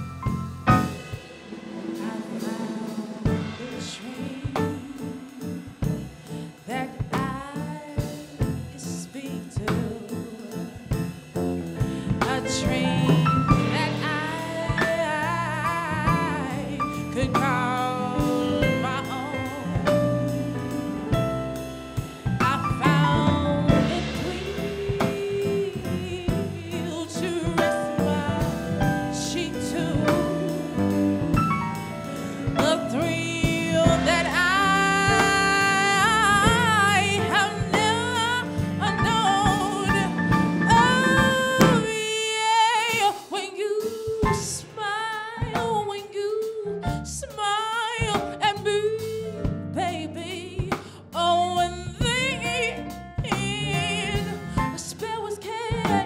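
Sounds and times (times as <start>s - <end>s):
drum kit: 0.0s - 56.0s
woman singing with vibrato: 1.6s - 11.1s, 12.0s - 21.1s, 22.4s - 31.3s, 32.5s - 56.0s.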